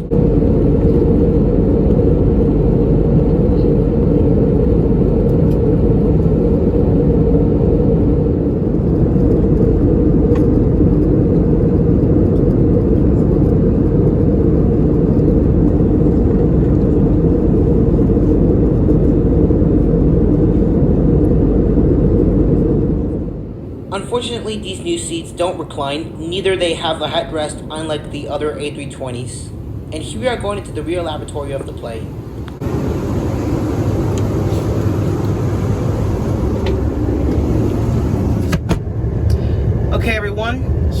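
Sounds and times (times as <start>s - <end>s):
aircraft cabin engine drone: 0.0s - 41.0s
faint steady hum: 0.0s - 41.0s.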